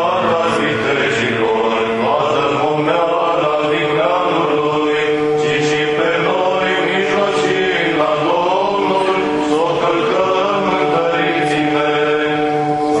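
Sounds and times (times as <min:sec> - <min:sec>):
church chant singing: 0:00.0 - 0:13.0
held drone note: 0:00.0 - 0:13.0.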